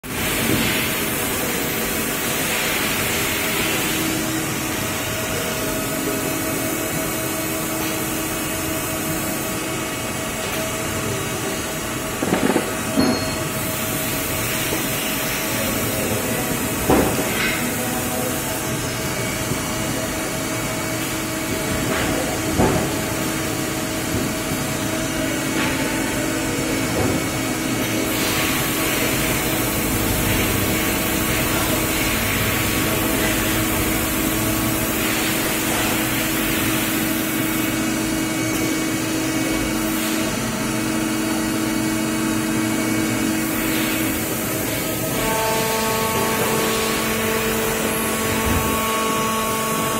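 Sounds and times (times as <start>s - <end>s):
machine hum with hiss: 0.0s - 49.9s.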